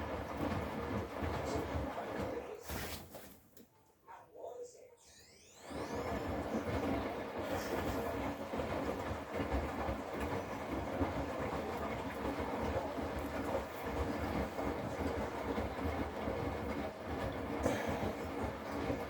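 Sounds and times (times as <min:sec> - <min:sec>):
washing machine drum spinning: 0:00.0 - 0:03.0, 0:05.3 - 0:19.0.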